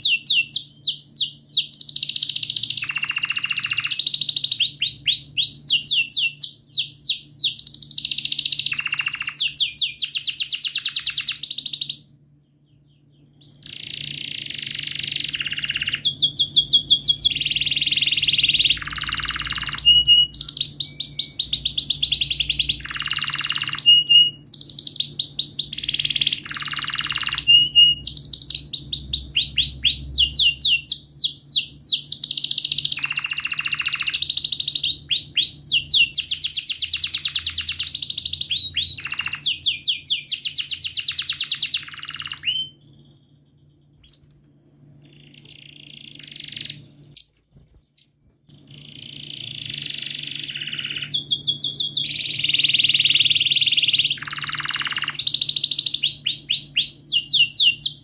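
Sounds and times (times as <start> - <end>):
canary singing trills: 0.0 - 58.0
faint low hum: 0.0 - 58.0.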